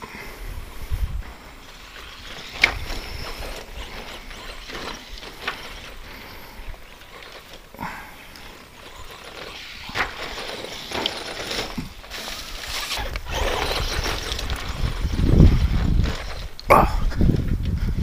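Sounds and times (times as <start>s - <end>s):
rc truck tyres scrabbling: 0.0s - 18.0s.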